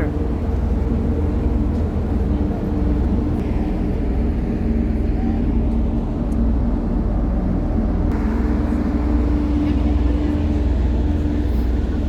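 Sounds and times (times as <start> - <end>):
ship engines rumbling: 0.0 - 12.0.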